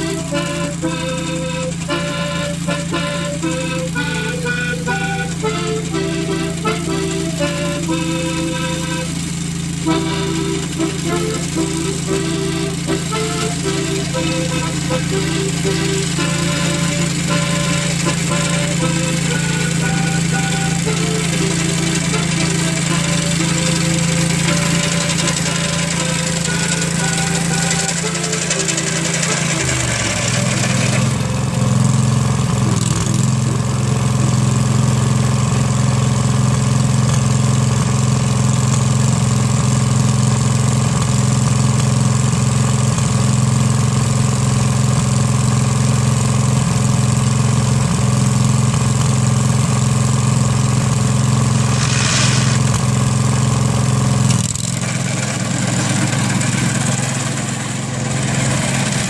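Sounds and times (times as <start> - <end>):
sickle-bar mower cutting hay: 0.0 - 59.0
tractor engine running: 0.0 - 59.0.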